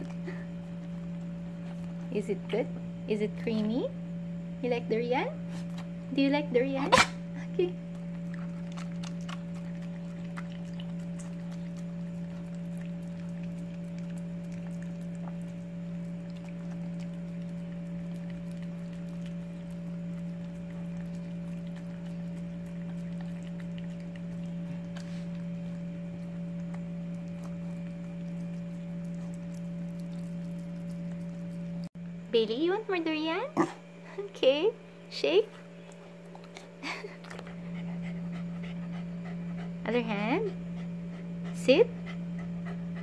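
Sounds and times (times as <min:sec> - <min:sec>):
dog licking and chewing: 0:00.0 - 0:03.7, 0:05.4 - 0:32.0, 0:35.4 - 0:43.0
low hum: 0:00.0 - 0:43.0.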